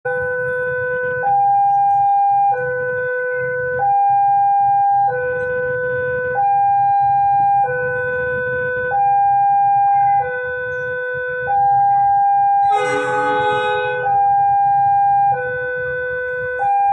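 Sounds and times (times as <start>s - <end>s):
two-tone crossing alarm: 0.1s - 16.9s.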